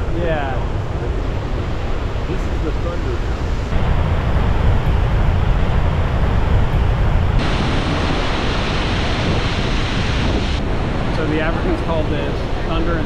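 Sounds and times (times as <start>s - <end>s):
waterfall rushing and rumbling: 0.0s - 13.0s.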